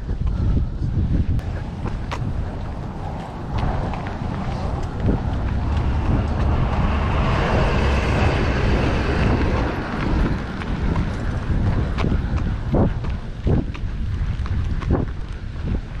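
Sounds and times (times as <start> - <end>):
outdoor rumble: 0.0 - 16.0
wind buffeting microphone: 0.0 - 16.0.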